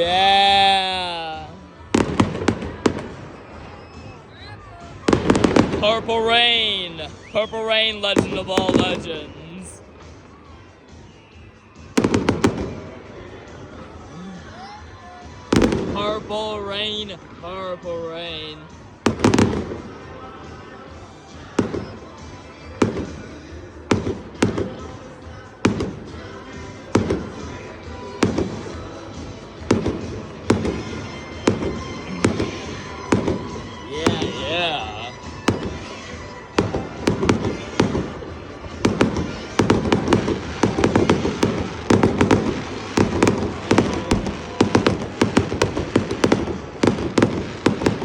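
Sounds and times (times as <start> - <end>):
fireworks bangs echoing: 0.0 - 10.7, 11.8 - 13.9, 15.3 - 20.7, 21.4 - 48.0
music: 0.0 - 48.0.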